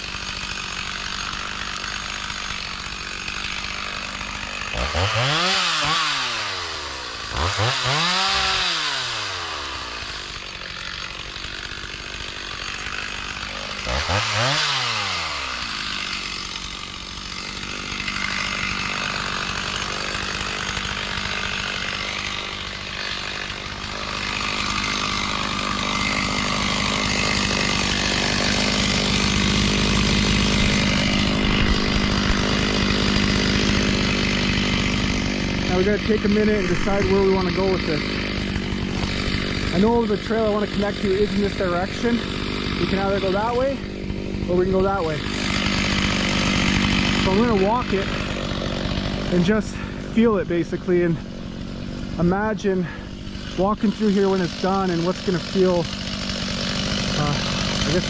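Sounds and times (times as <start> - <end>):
chainsaw revving and cutting: 0.0 - 58.0.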